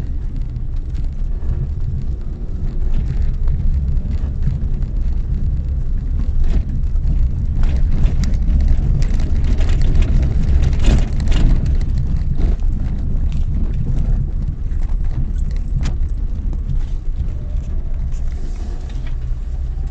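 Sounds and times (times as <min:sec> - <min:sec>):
car engine and road rumble: 0:00.0 - 0:19.9.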